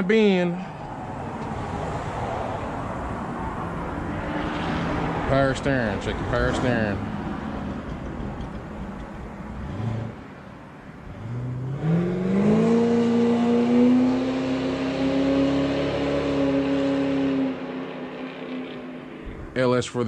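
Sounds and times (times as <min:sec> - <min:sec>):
car accelerating past: 0:01.0 - 0:10.4, 0:11.0 - 0:19.6.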